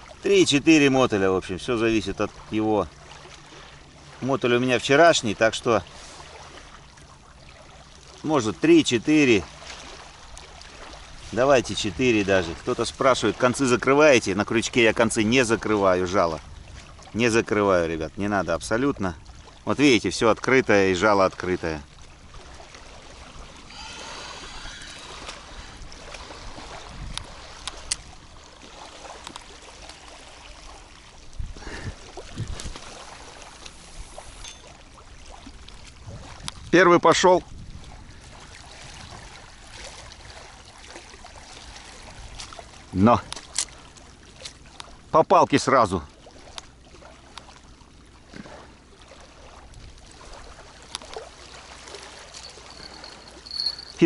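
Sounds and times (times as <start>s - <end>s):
river water: 0.0s - 54.0s
wind: 0.0s - 54.0s.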